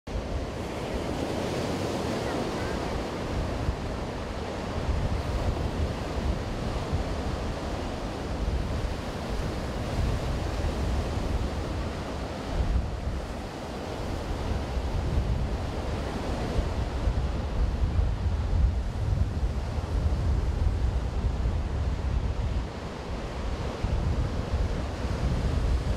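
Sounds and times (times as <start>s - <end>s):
ocean surf breaking on beach: 0.1s - 25.9s
wind buffeting microphone: 0.1s - 25.9s.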